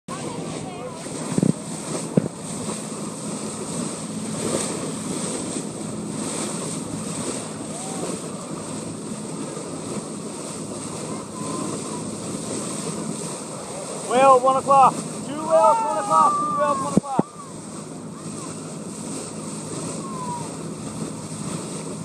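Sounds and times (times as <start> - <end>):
low engine hum: 0.1 - 22.0
water washing along hull: 0.1 - 22.0
wind buffeting microphone: 0.1 - 22.0.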